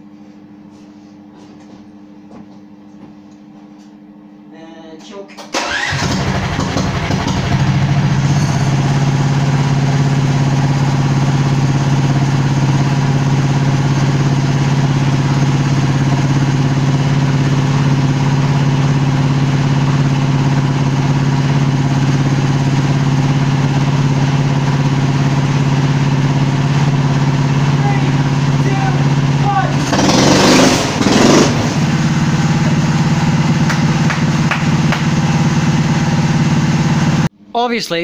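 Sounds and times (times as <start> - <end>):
go-kart engine idling: 5.6 - 37.3.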